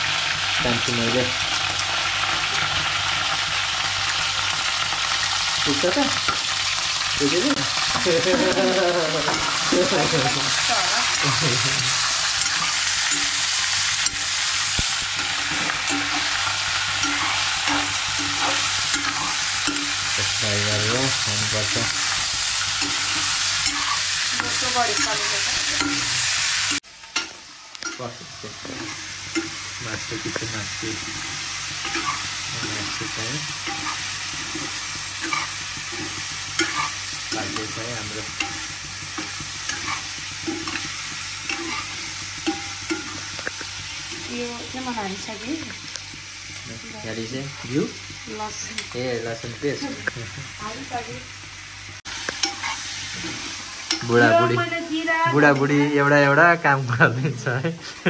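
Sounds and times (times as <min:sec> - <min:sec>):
food sizzling in a pan: 0:00.0 - 0:58.0.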